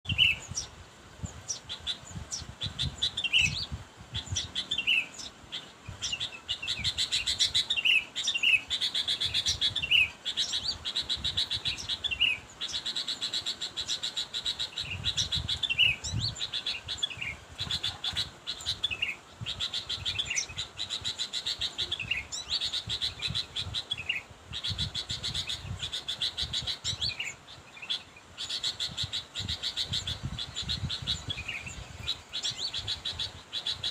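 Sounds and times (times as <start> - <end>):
bird whistled calls and buzzy chatter: 0.1 - 33.9.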